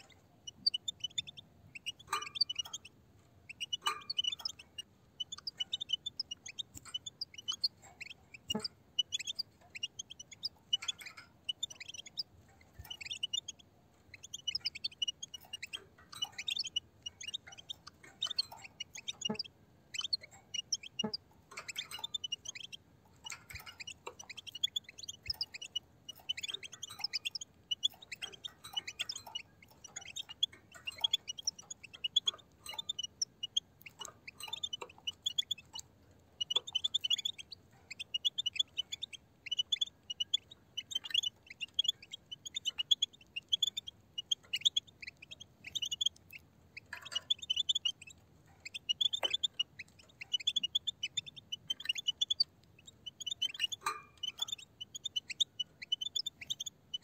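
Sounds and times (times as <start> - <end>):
goldfinches twittering: 0.0 - 2.9, 3.5 - 35.8, 36.4 - 57.0.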